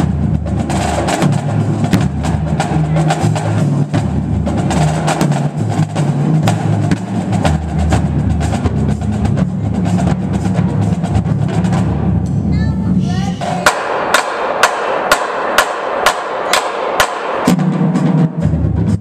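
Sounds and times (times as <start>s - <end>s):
marching drumline playing: 0.0s - 19.0s.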